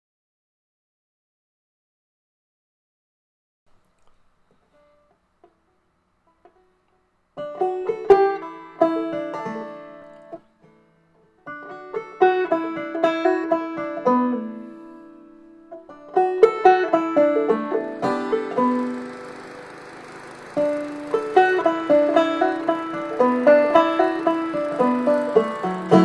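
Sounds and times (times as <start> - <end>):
banjo picking: 3.8 - 26.0.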